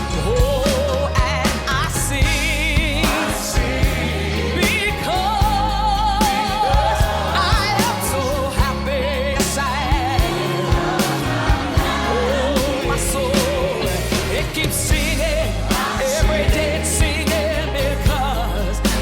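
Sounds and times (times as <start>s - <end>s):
band with bass and drums: 0.0s - 19.0s
person singing with vibrato: 0.0s - 19.0s
choir singing: 2.2s - 19.0s.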